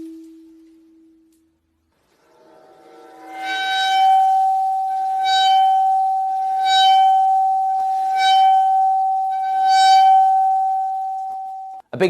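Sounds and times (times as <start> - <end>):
bowed metal plate ringing: 2.2 - 11.8.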